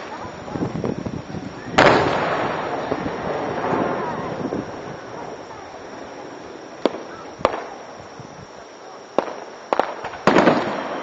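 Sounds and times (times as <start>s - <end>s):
firework bang: 0.0s - 8.1s, 9.1s - 11.0s
rumbling echo and crackle: 0.0s - 11.0s.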